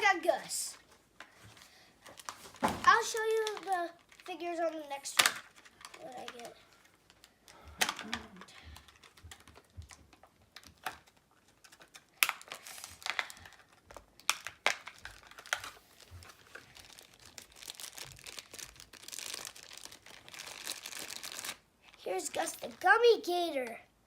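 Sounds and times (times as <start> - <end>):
plastic packaging crinkling: 0.7 - 22.8.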